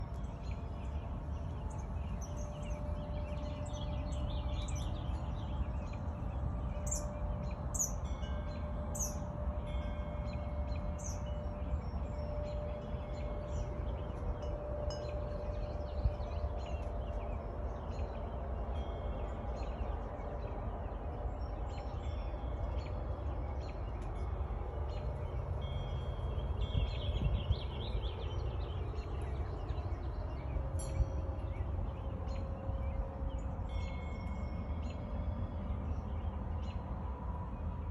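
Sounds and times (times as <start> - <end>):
birds chirping and singing: 0.0 - 37.9.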